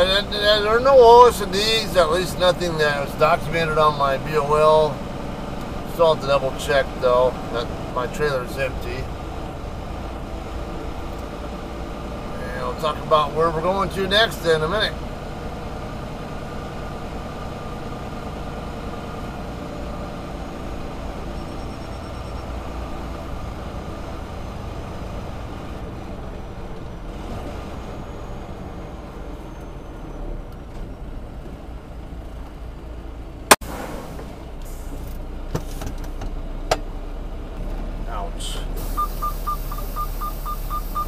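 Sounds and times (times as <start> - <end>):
diesel engine idling: 0.0 - 27.1, 27.8 - 41.0.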